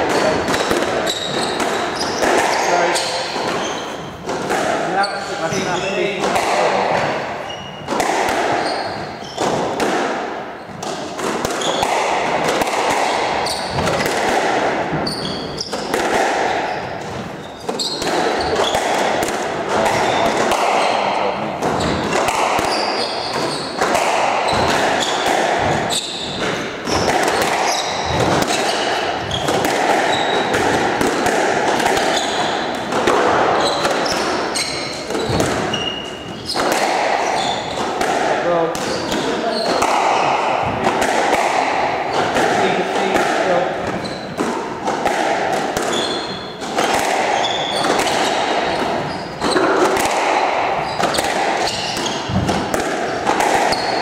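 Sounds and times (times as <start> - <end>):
shoes squeaking on wooden floor: 0.0 - 9.8, 10.6 - 14.2, 14.8 - 44.5, 45.8 - 49.8, 50.6 - 54.0
squash ball knocking: 0.0 - 54.0.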